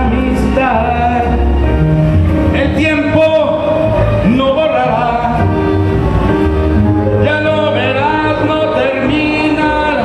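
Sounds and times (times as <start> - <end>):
man singing into microphone: 0.0 - 1.8, 2.5 - 6.2, 7.1 - 10.0
backing music track: 0.0 - 10.0.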